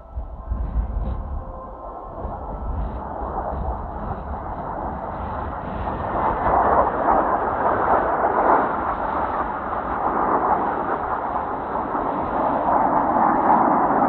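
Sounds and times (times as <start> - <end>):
jets roaring overhead: 0.0 - 14.0
wind buffeting microphone: 0.0 - 14.0.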